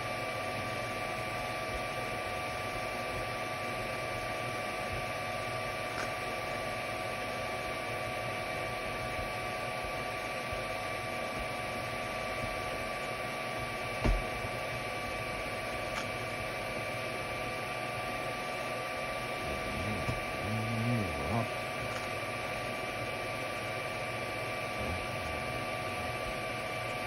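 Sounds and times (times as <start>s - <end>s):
cooling fans whirring: 0.0s - 27.0s.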